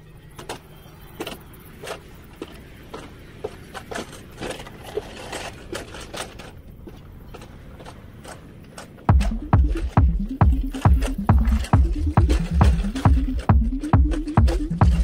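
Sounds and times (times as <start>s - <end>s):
coaster sled rumbling on rail: 0.0s - 15.0s
clicks and knocks of sled: 0.2s - 15.0s.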